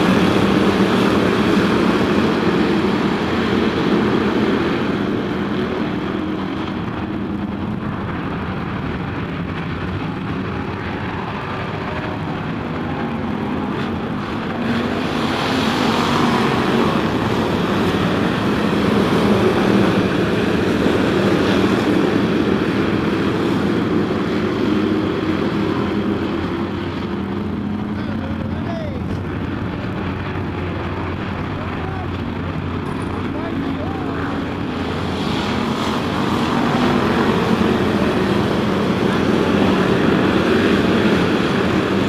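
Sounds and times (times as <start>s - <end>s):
race car engines racing: 0.0s - 42.0s.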